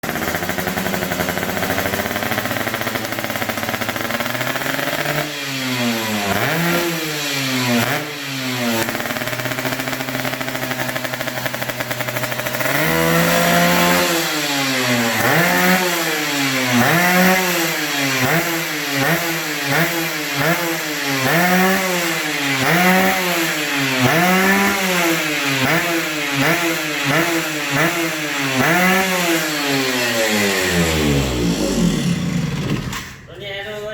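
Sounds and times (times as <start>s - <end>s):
two-stroke engine revving: 0.0s - 33.3s.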